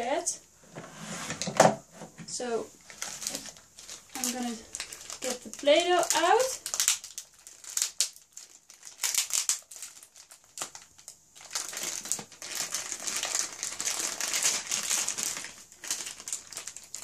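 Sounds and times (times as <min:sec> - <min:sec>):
plastic wrapping crinkling: 0:02.4 - 0:17.0.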